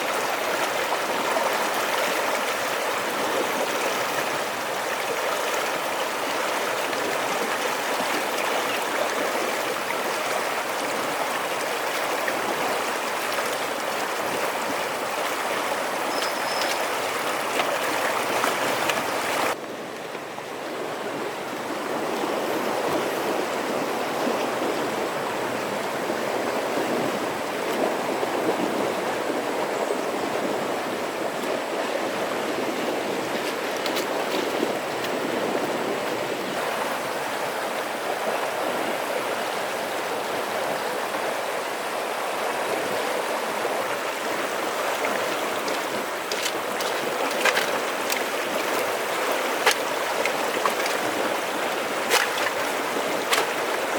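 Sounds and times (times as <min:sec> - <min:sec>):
flowing water rushing: 0:00.0 - 0:53.9.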